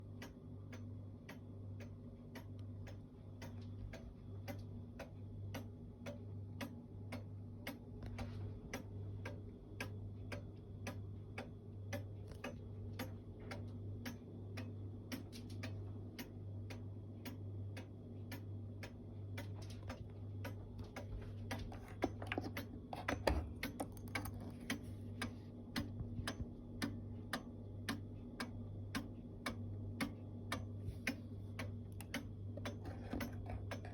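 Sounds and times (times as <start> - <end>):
clock ticking: 0.1 - 33.9.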